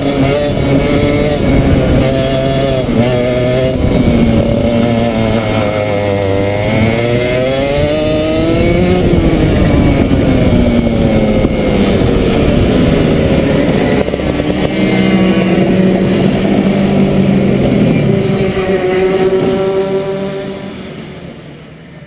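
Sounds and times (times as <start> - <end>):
kart engine: 0.0 - 22.0.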